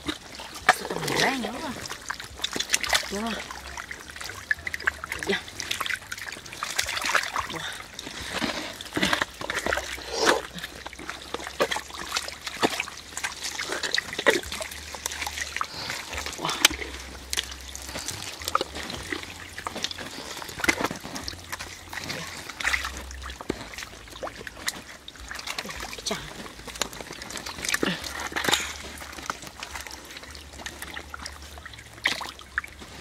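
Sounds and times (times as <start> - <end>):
wet mud squelching: 0.0 - 33.0.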